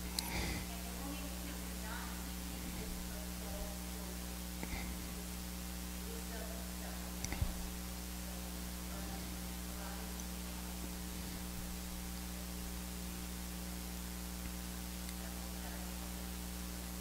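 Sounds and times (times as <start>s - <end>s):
electrical mains hum: 0.0s - 17.0s
faint hiss: 0.0s - 17.0s.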